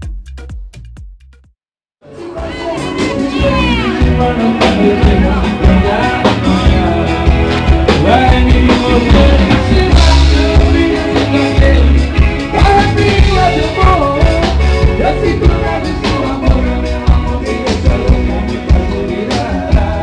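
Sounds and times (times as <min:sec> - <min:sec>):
person singing: 0:02.0 - 0:20.0
rock band playing: 0:02.0 - 0:20.0.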